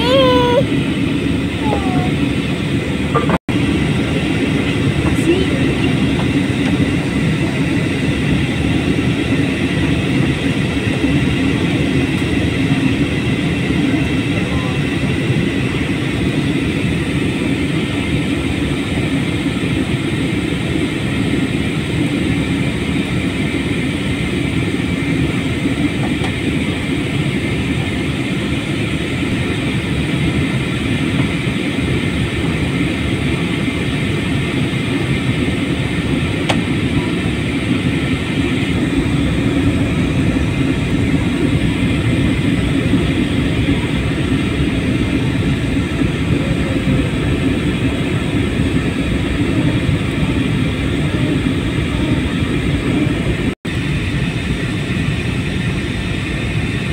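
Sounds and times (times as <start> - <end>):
jet engines droning: 0.0 - 56.9.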